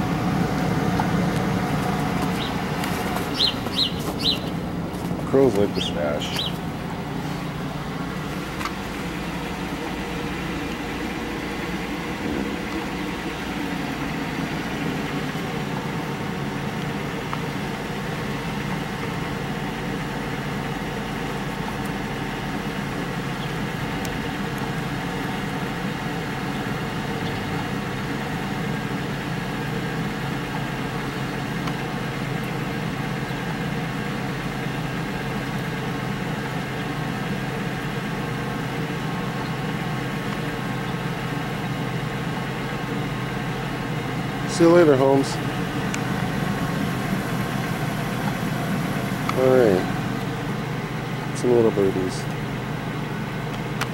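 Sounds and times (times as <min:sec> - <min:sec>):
steady mechanical hum: 0:00.0 - 0:53.9.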